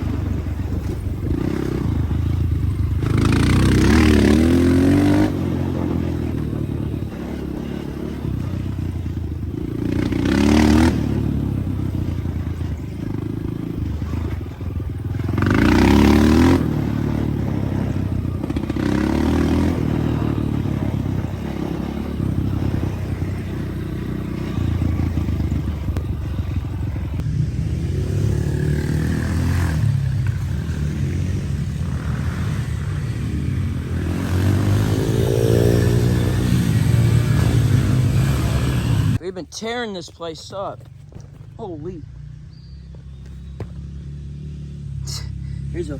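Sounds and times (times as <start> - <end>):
dirt bike engine revving: 0.0 - 39.8, 41.6 - 45.9.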